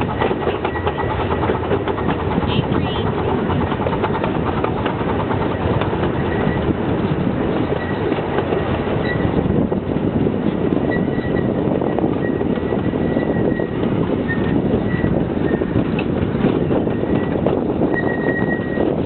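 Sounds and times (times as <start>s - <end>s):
steam locomotive wheels on rails: 0.0s - 19.0s.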